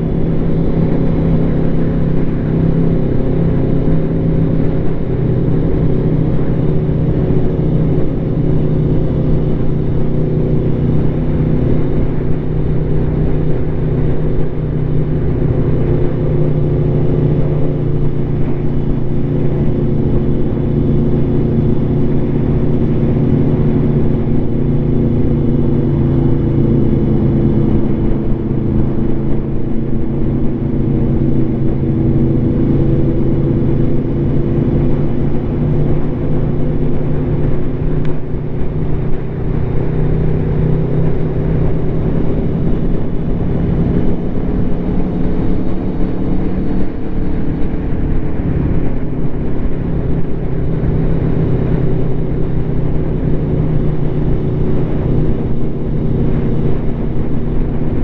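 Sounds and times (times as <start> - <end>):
motorcycle engine cruising: 0.0 - 58.0
wind rumble on microphone: 0.0 - 58.0.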